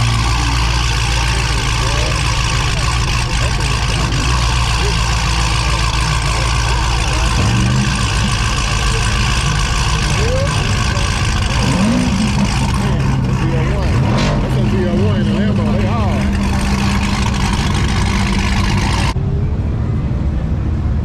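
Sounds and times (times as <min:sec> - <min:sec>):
engine revving: 0:00.0 - 0:19.2
vehicle engine idling: 0:00.0 - 0:19.2.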